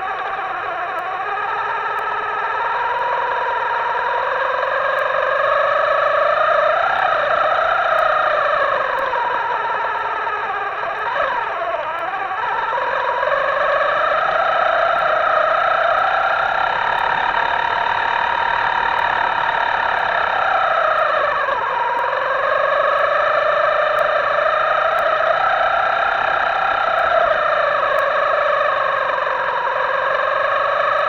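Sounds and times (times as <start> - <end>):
model boat electric motor whining: 0.0 - 31.0.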